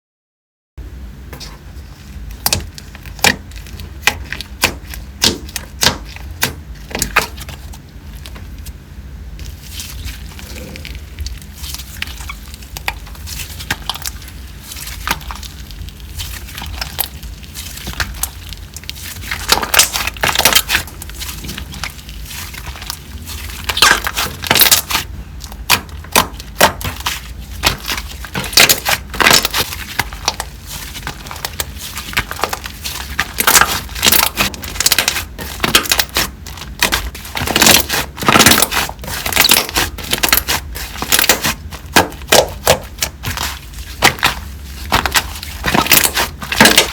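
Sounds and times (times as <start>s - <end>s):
slime crackling and popping: 1.9s - 8.8s, 9.4s - 46.9s.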